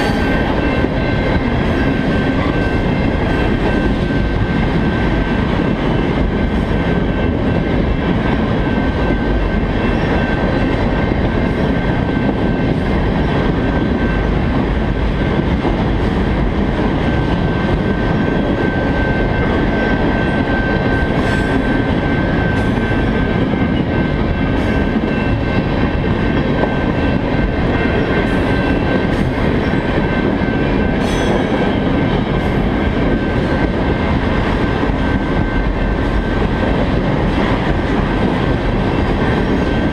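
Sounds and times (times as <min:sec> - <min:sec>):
steel wheels rumbling on rail: 0:00.0 - 0:39.9.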